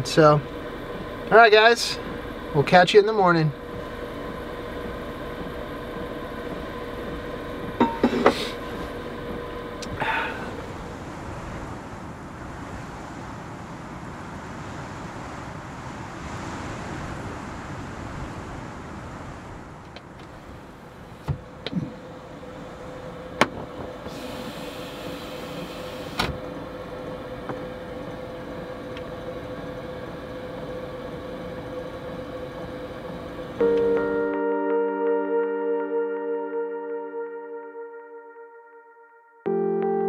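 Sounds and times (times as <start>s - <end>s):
snowstorm wind: 0.0s - 33.6s
steady hum: 0.0s - 40.0s.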